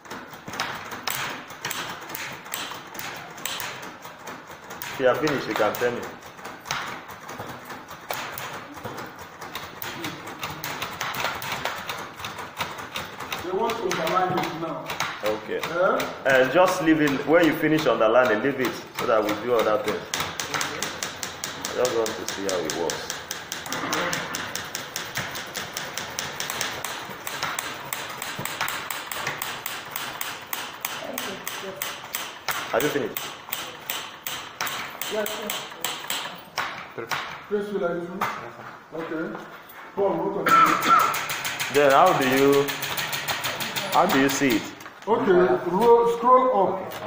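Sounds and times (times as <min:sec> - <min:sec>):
manual typewriters clacking: 0:00.0 - 0:37.5, 0:40.5 - 0:44.8.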